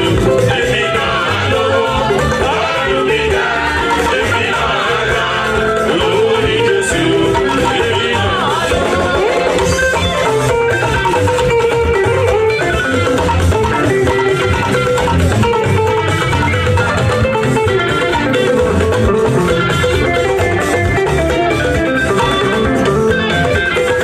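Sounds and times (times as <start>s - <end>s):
bass guitar: 0.0s - 24.0s
plucked electric guitar: 0.0s - 24.0s.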